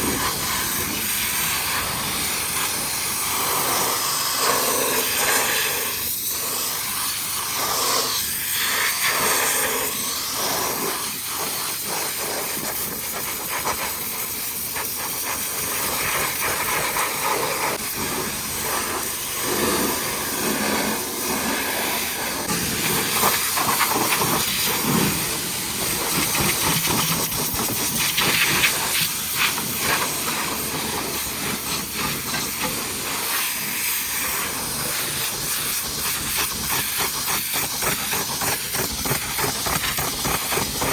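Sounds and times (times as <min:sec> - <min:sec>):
pressure washer spraying water: 0:00.0 - 0:40.9.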